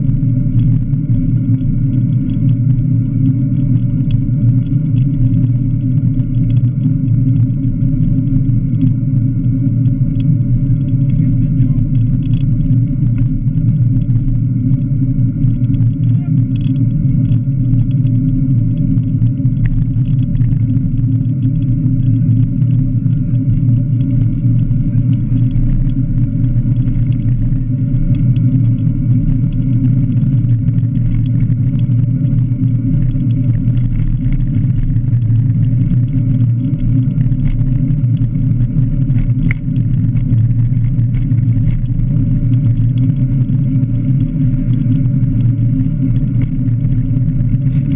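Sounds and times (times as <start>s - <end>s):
wind and road rumble: 0.0s - 47.9s.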